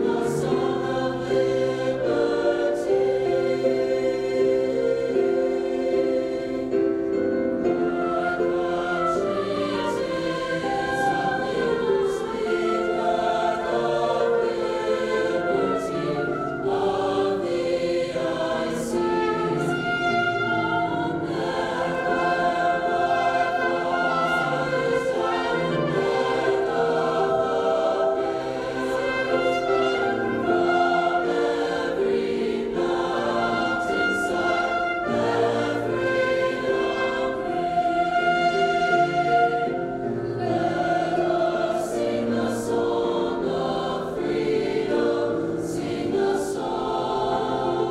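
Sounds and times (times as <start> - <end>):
choir singing: 0.0 - 47.9.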